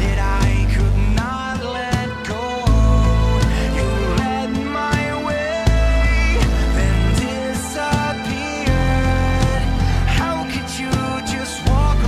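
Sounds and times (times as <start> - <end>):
rock song: 0.0 - 12.0.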